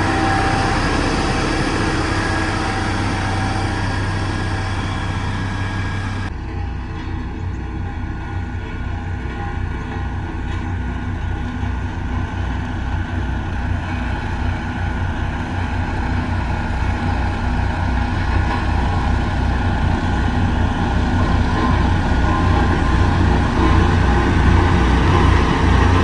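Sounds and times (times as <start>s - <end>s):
heavy machine engine throbbing: 0.0s - 26.0s.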